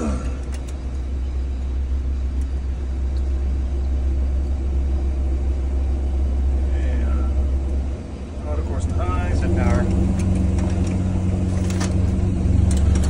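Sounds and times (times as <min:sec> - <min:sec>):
turboprop engines rumbling: 0:00.0 - 0:13.0.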